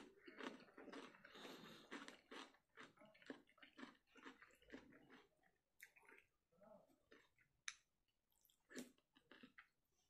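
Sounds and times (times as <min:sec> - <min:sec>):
wet eating sounds: 0:00.0 - 0:10.0.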